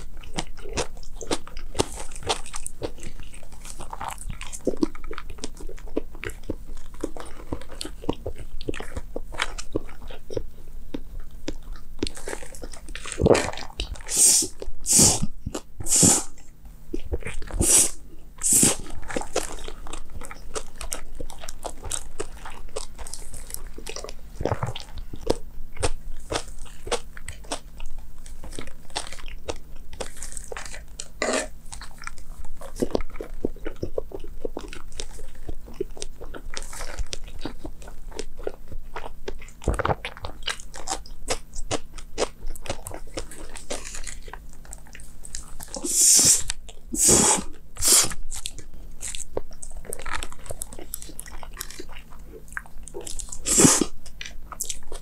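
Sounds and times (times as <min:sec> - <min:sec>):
crunchy bites and chewing: 0:00.0 - 0:55.0.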